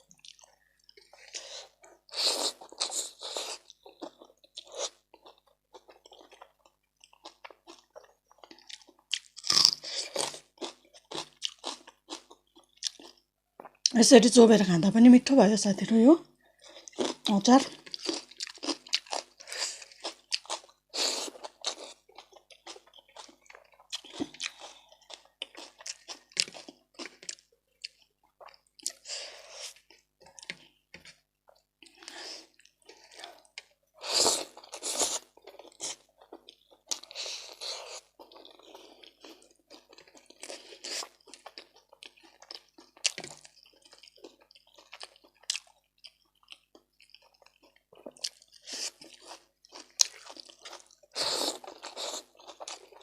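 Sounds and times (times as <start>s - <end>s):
person chewing and crunching food: 0.0s - 14.0s, 16.3s - 53.0s.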